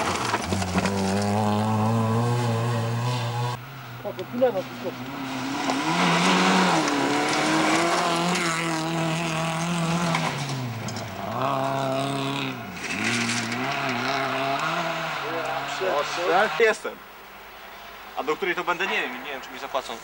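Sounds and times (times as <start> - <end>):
rally car engine revving: 0.0 - 16.7.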